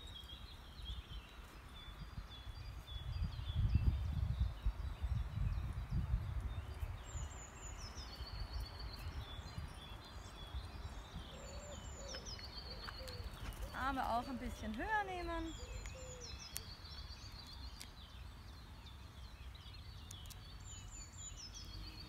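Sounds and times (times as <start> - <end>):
wind rumble on microphone: 0.0 - 18.2
birds chirping and trilling: 0.0 - 22.0.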